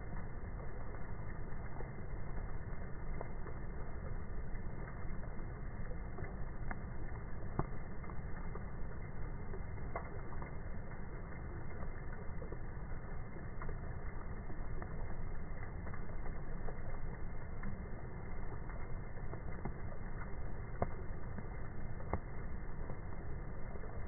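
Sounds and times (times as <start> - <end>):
low rumble: 0.0 - 24.0
rain pattering on pond and dock: 0.0 - 24.0.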